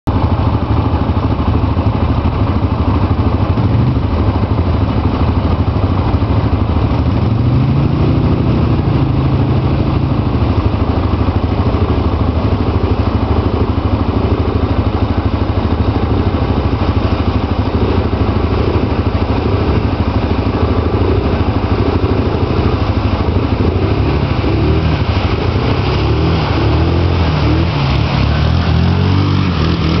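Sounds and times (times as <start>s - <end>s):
atv engines revving: 0.3s - 30.0s.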